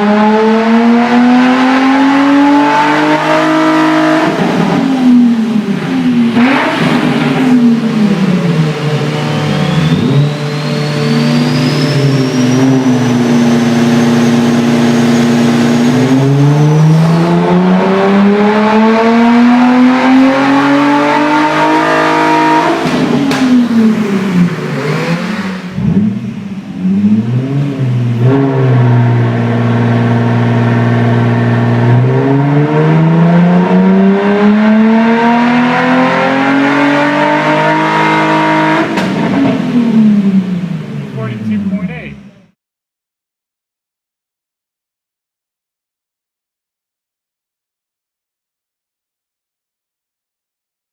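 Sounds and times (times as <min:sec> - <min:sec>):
car engine revving: 0:00.0 - 0:42.6.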